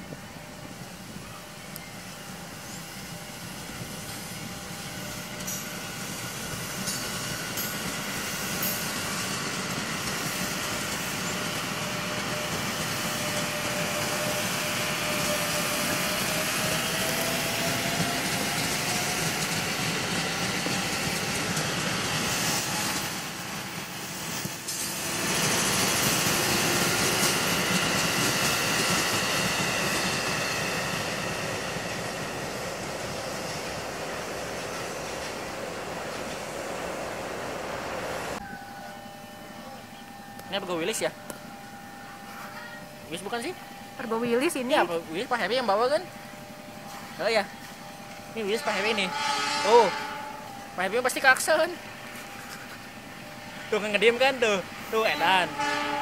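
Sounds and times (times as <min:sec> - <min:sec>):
train wheels on rails: 0:00.0 - 0:39.0, 0:39.8 - 0:56.0
rising train whine: 0:00.0 - 0:56.0.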